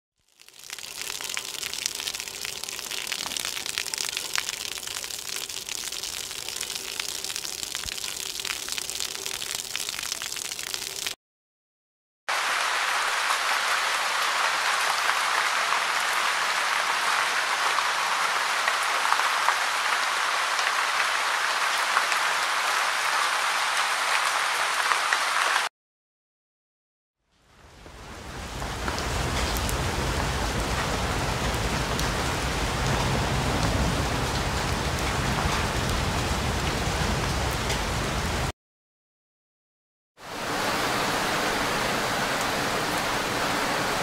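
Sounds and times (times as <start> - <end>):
rain falling: 0.2 - 11.2, 12.3 - 25.7, 27.4 - 38.5, 40.2 - 44.0.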